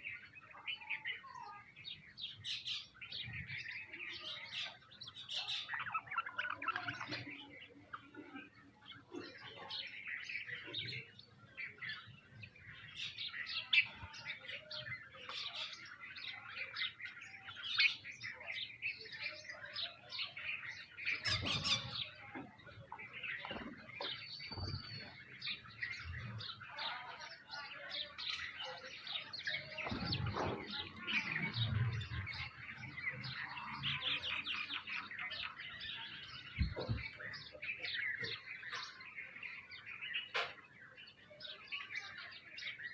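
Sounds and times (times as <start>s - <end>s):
small birds chirping and twittering: 0.0s - 42.9s.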